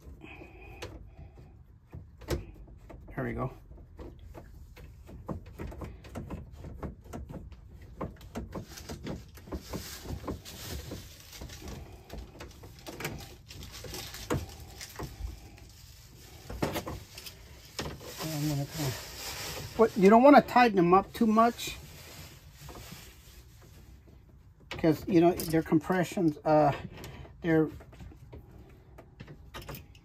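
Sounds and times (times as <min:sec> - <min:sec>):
hose fittings clicking and knocking: 0:00.0 - 0:18.8, 0:23.7 - 0:30.0.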